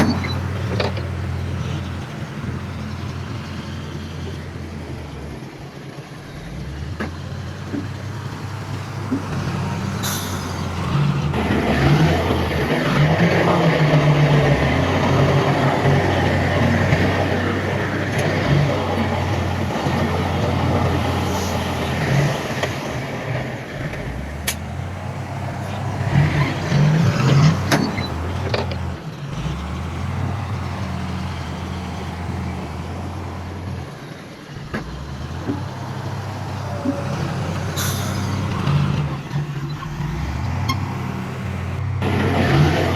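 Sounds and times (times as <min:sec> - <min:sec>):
heavy diesel engines running: 0:00.0 - 0:42.9.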